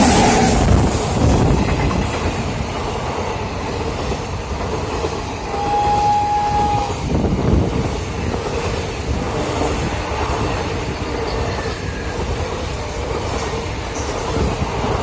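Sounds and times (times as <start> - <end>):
train wagons rumbling and clattering: 0.0 - 15.0.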